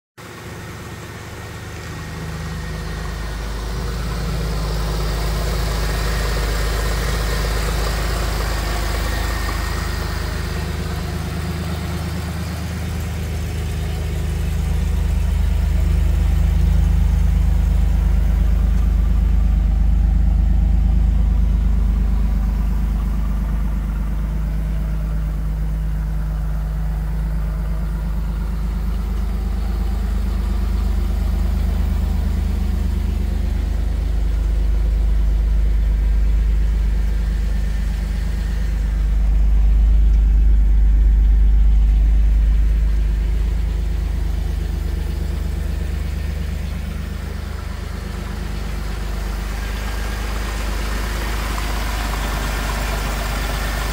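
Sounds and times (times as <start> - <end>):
car engine idling: 0.2 - 53.9.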